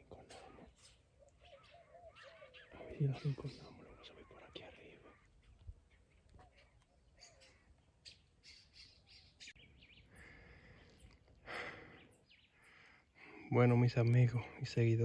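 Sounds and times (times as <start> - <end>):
faint bird chirps: 0.0 - 13.7.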